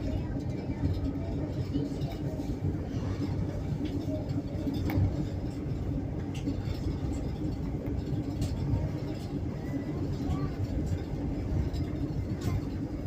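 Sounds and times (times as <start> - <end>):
train rumble and hum: 0.0 - 13.0.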